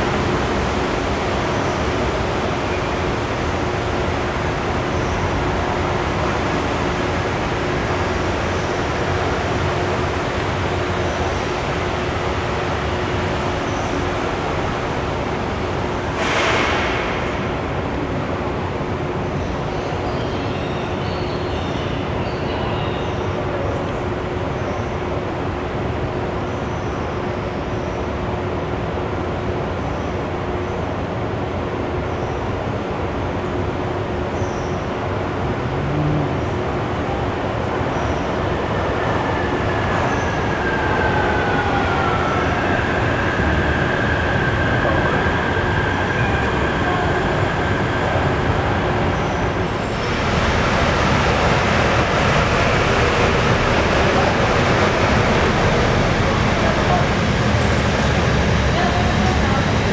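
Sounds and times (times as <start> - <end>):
city noise: 0.0 - 59.9
distant monorail trains: 0.0 - 59.9
train rushing noise: 0.0 - 59.9.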